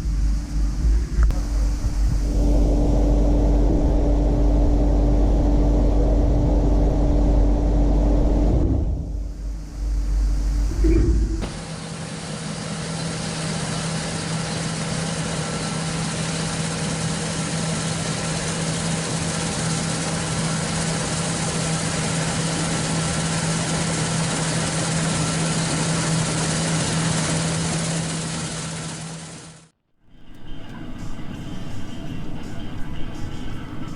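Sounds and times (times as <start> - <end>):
combine harvester running: 0.1 - 33.9.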